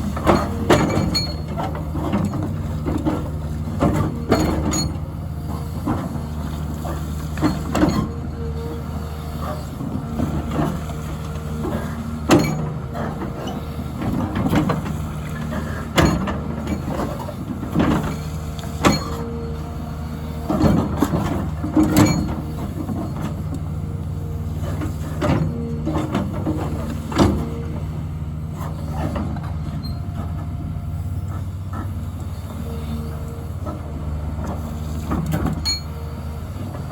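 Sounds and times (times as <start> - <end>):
diesel engine running: 0.0 - 36.9
hydraulic whine: 0.0 - 36.9.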